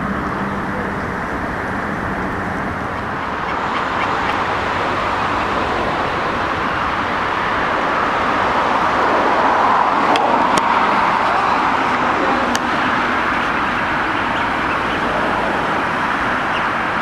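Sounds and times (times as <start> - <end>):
city road traffic hum: 0.0 - 17.0.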